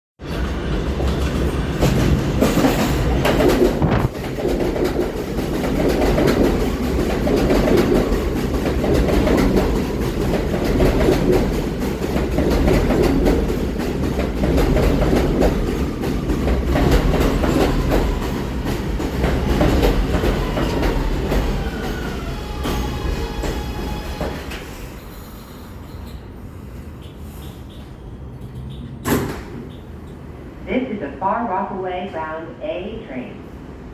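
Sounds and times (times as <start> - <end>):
subway train rumble: 0.2 - 33.9.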